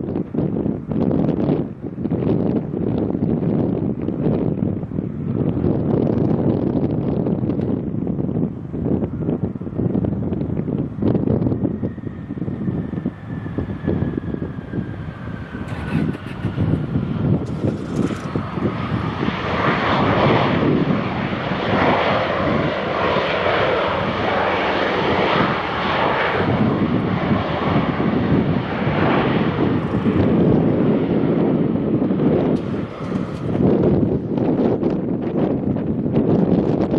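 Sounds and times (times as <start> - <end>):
jet engine whine: 0.0 - 36.9
jet roar of passing aircraft: 0.0 - 36.9.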